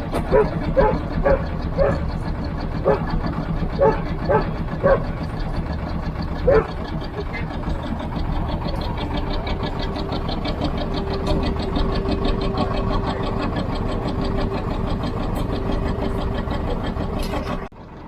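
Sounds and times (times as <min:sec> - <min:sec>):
engine running with ticking: 0:00.0 - 0:18.0.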